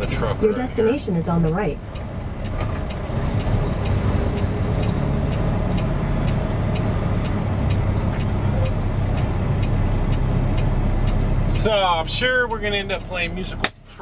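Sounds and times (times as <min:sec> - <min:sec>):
turn signal clicking: 0:00.0 - 0:13.8
diesel engine running: 0:00.0 - 0:14.0.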